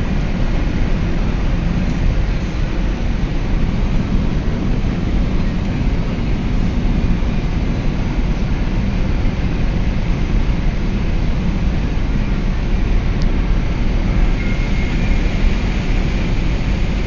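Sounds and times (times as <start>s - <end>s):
car road noise on highway: 0.0s - 17.0s.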